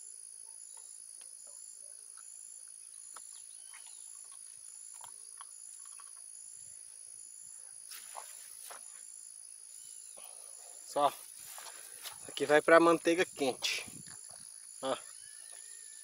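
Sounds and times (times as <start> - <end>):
insect high-pitched trill: 0.0 - 16.0
insect pulsing call: 0.0 - 16.0.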